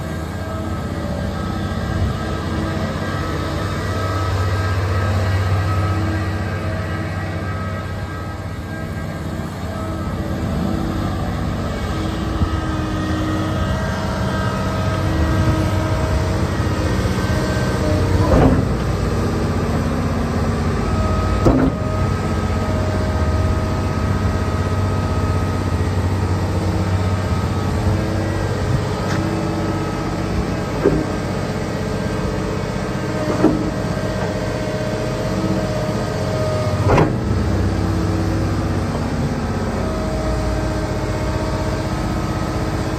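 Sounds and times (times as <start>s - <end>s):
excavator diesel engine running: 0.0s - 42.9s
hydraulic pump whine: 0.0s - 42.9s.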